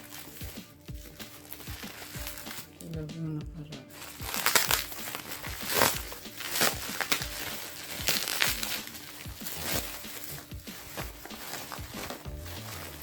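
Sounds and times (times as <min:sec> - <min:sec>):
crinkly packaging rustling: 0:00.0 - 0:03.0, 0:03.9 - 0:13.0.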